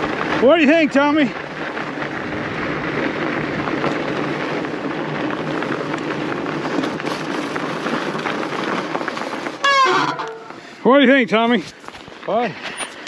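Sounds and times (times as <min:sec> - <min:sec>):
tyres crunching over snow: 0:00.0 - 0:13.0.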